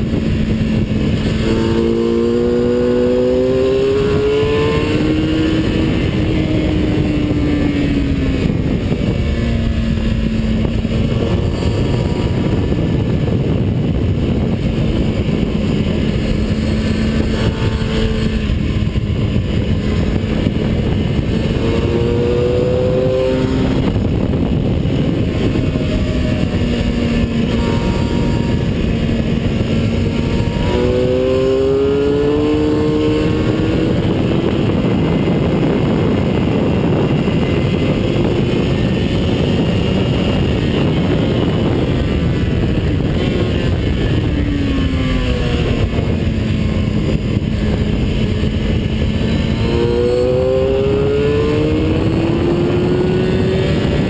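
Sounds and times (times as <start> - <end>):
heavy wind rush: 0.0 - 54.0
vehicle engine at speed: 0.0 - 54.0.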